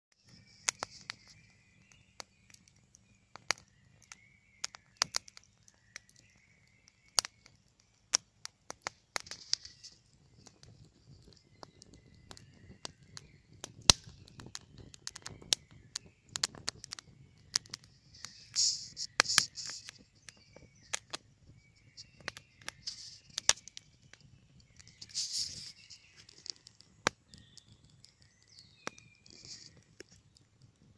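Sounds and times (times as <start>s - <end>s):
campfire crackling and popping: 0.1s - 30.9s
birds singing: 0.2s - 30.9s.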